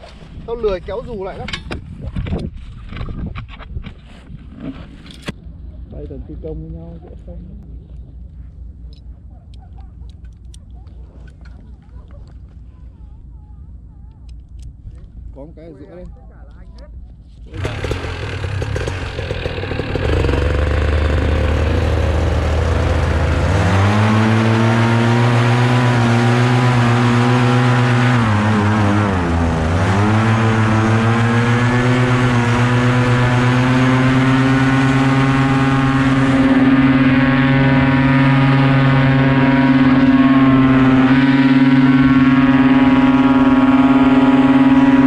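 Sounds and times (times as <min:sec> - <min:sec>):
paramotor engine and propeller: 0:05.0 - 0:45.0.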